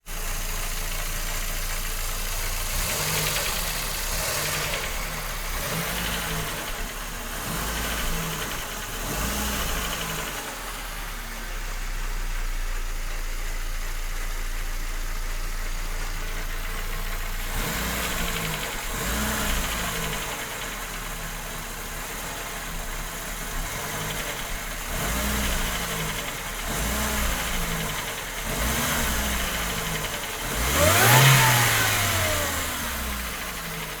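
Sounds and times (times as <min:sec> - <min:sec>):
car engine revving: 0:00.0 - 0:34.0
engine knocking: 0:00.0 - 0:34.0.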